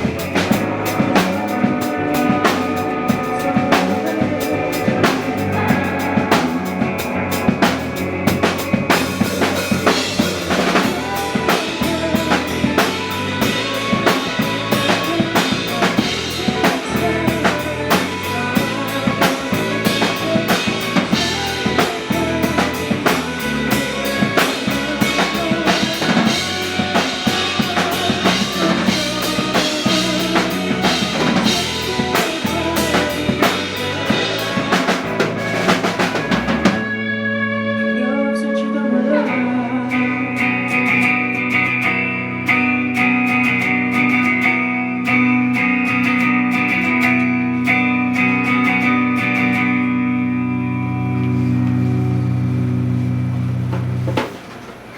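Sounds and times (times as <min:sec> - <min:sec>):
drum kit: 0:00.0 - 0:37.0, 0:40.4 - 0:49.8, 0:50.9 - 0:54.9
bass guitar: 0:00.0 - 0:54.5
electric guitars: 0:00.0 - 0:54.9.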